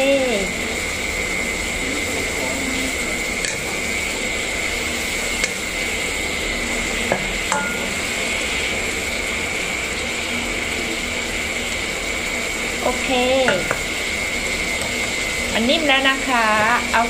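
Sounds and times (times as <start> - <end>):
noodles boiling in water: 0.0 - 17.0.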